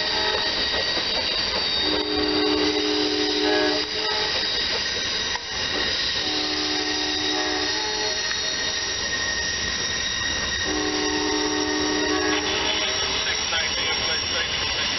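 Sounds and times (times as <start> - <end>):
freight train rolling: 0.0 - 14.9
high-pitched wheel squeal: 0.0 - 14.9.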